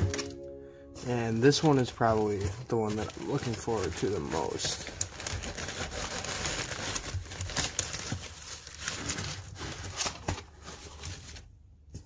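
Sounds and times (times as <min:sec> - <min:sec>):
packing paper crinkling: 0:00.0 - 0:11.6.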